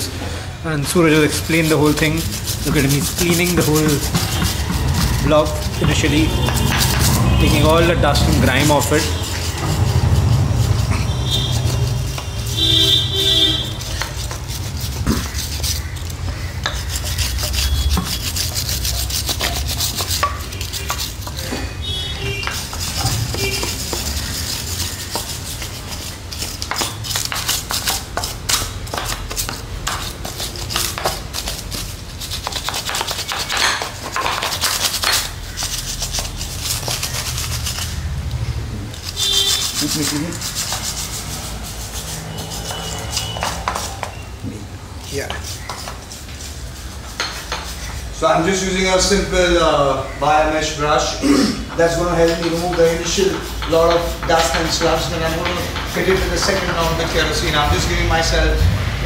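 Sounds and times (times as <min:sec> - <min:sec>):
wire brush scrubbing metal: 0:00.8 - 0:38.2, 0:38.9 - 0:44.2, 0:45.0 - 0:51.1, 0:51.7 - 0:58.4.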